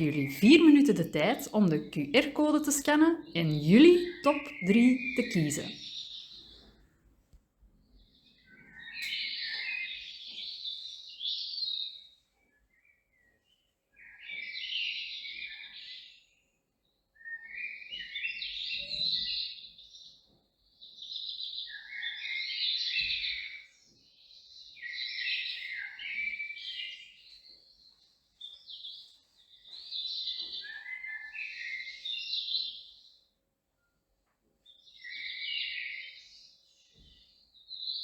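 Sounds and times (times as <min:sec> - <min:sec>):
songbird chirping: 0:00.0 - 0:07.0, 0:07.6 - 0:33.9, 0:34.6 - 0:38.0.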